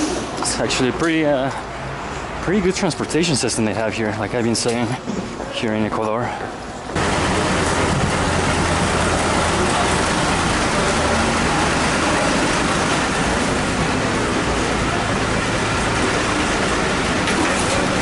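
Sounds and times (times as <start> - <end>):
bus engines idling: 0.0 - 18.0.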